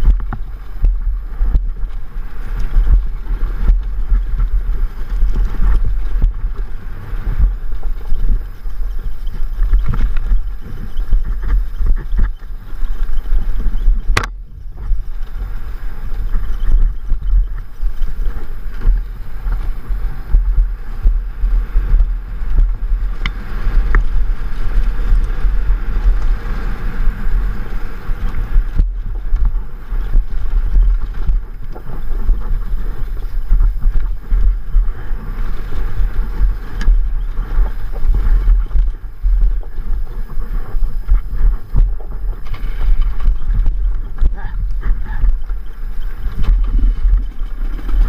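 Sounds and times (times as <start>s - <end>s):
motorcycle engine running: 0.0s - 48.0s
wind buffeting on microphone: 0.0s - 48.0s.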